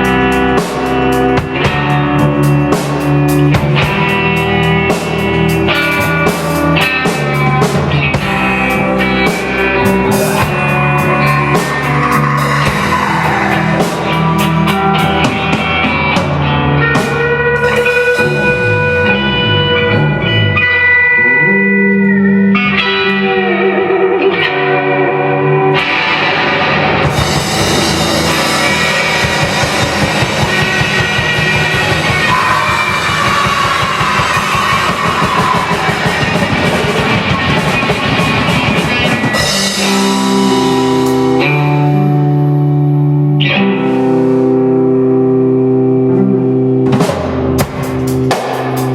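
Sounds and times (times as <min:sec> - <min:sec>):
heavy rock music: 0:00.0 - 0:48.9.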